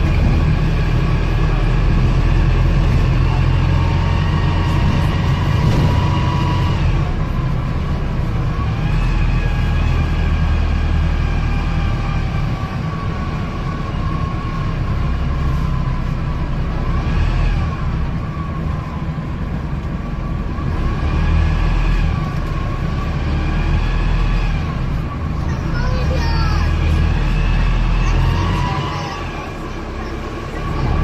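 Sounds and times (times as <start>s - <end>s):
bus engine rumbling: 0.0s - 31.0s
bus whining: 0.0s - 31.0s.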